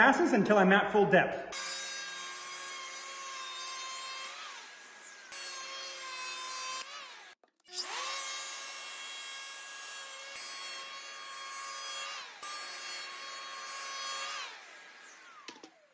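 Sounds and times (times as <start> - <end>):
electric hand planer whine: 1.6 - 15.9.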